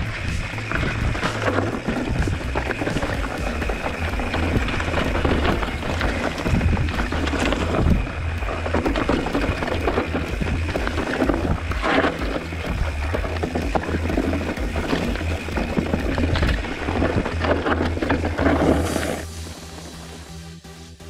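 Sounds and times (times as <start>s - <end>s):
bike rattling and knocking: 0.0s - 19.3s
tyres crunching over loose stones: 0.0s - 19.3s
background music: 0.0s - 21.0s.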